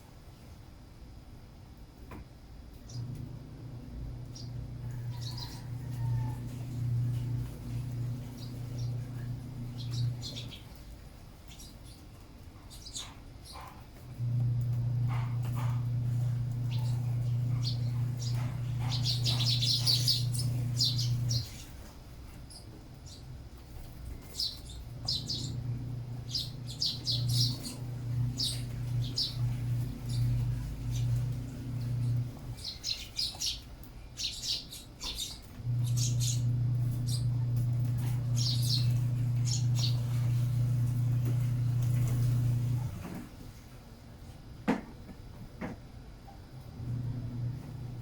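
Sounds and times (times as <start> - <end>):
steady low hum: 0.0 - 48.0
sparrows chirping: 2.8 - 3.3, 4.1 - 23.4, 24.1 - 42.9.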